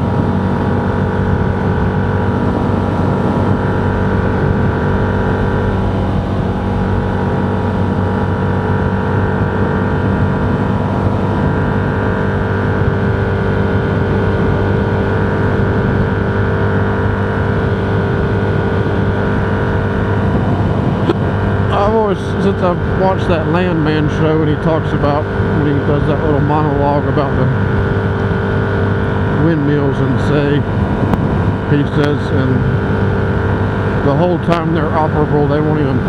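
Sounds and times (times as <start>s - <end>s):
vehicle engine hum and road noise: 0.0s - 36.0s.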